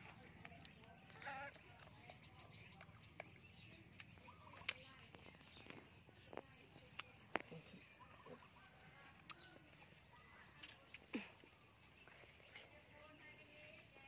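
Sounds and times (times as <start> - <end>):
faint chirps: 0.0 - 14.0.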